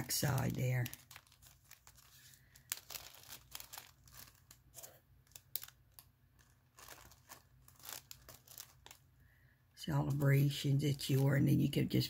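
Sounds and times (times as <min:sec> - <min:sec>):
plastic sleeve crinkling: 0:00.0 - 0:12.0.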